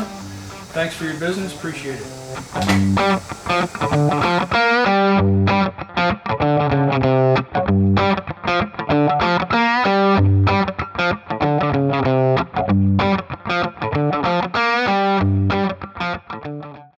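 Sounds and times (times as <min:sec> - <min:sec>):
distorted electric guitar riff: 0:00.0 - 0:16.2.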